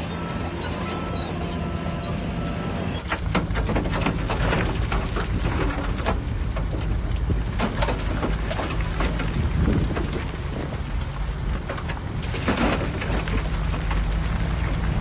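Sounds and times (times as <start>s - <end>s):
diesel machinery humming: 0.0s - 15.0s
dirt and rocks crunching: 3.0s - 15.0s.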